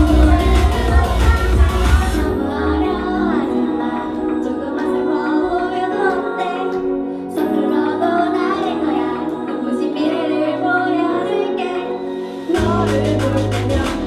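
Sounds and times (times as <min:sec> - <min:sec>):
backing track of sustained chords: 0:00.0 - 0:14.0
woman singing pop song: 0:00.0 - 0:14.0.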